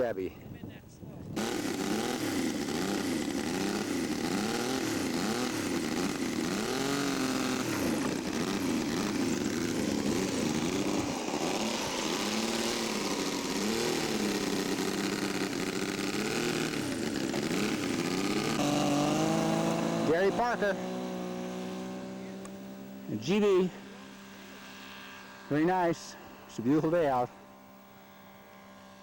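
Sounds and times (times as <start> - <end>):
model airplane engine: 1.3 - 29.0.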